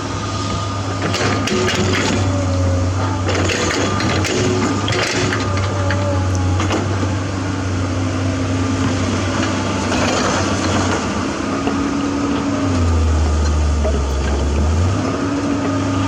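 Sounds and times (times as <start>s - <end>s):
diesel construction machinery running: 0.0s - 16.0s.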